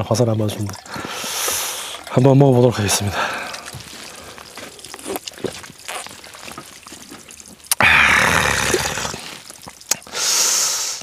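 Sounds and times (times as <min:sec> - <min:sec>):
water splashing from spout: 0:00.4 - 0:11.0.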